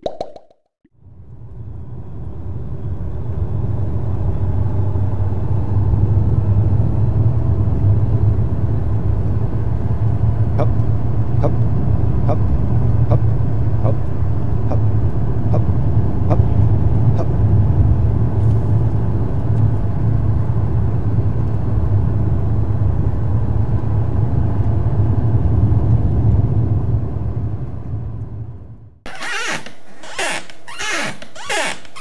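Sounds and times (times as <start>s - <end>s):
car engine and road rumble: 1.0s - 30.0s.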